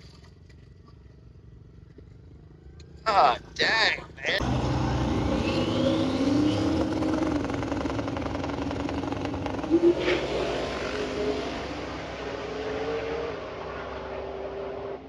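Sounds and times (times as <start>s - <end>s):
car and truck engines running: 0.0s - 15.0s.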